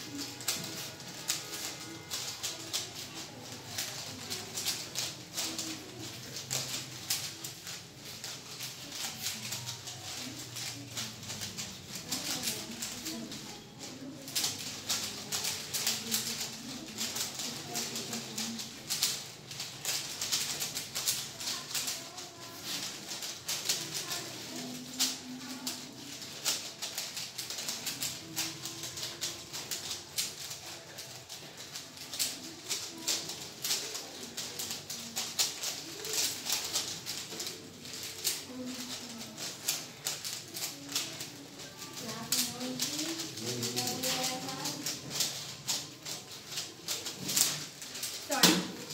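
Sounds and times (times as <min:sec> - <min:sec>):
puzzle cubes clicking and rattling: 0:00.0 - 0:48.9.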